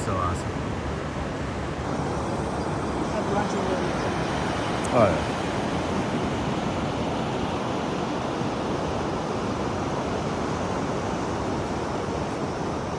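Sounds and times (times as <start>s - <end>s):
ocean surf: 0.0s - 12.9s
wind: 0.0s - 12.9s.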